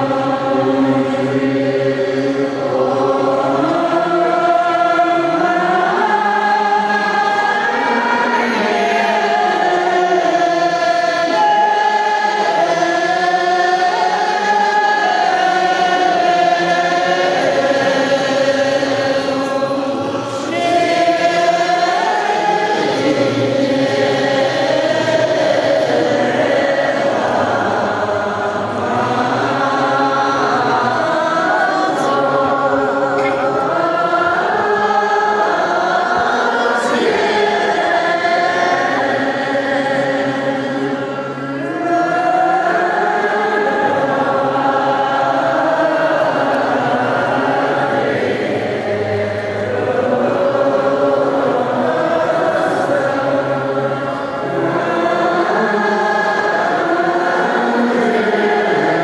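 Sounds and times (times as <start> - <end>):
crowd chanting in unison: 0.0 - 59.0.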